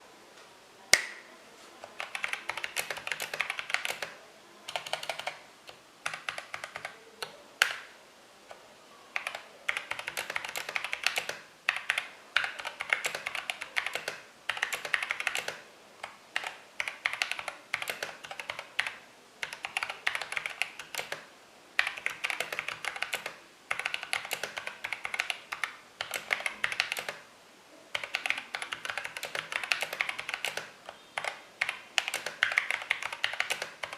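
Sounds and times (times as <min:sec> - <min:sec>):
mechanical keyboard typing: 0:01.8 - 0:07.9, 0:09.2 - 0:27.3, 0:27.9 - 0:33.9.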